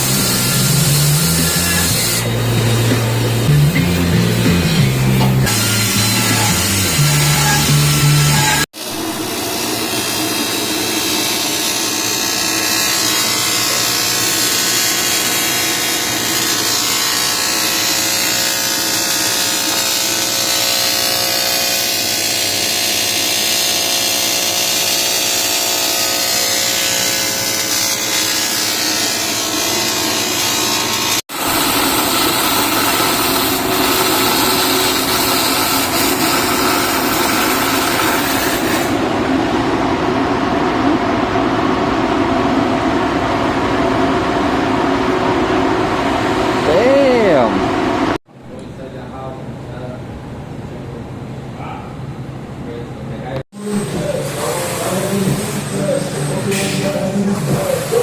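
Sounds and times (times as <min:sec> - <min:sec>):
welding arc buzzing: 0:00.0 - 0:48.2.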